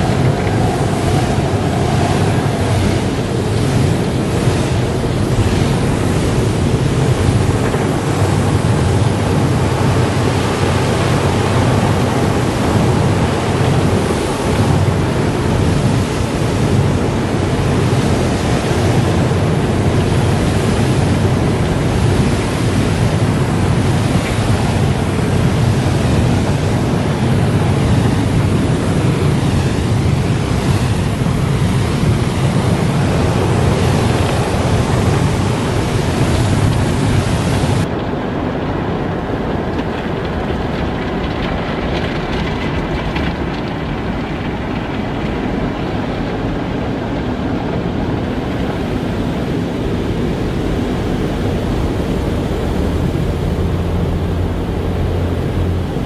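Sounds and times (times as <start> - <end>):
car wash spraying water: 0.0 - 56.0.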